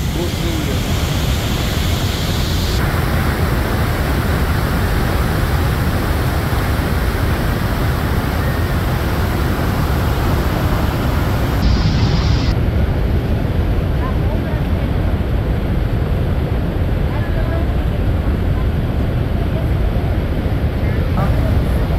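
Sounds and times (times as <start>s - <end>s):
waterfall roaring: 0.0s - 13.1s, 14.0s - 21.9s.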